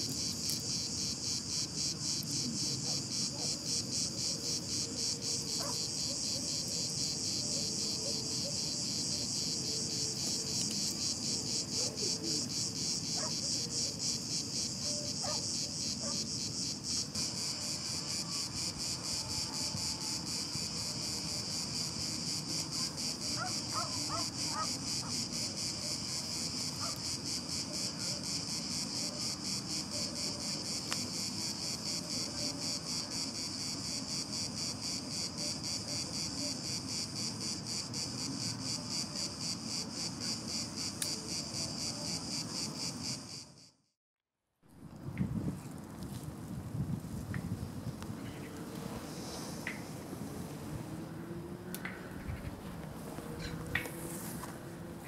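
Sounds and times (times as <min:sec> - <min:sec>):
insects buzzing: 0:00.0 - 0:43.7, 0:45.1 - 0:55.0.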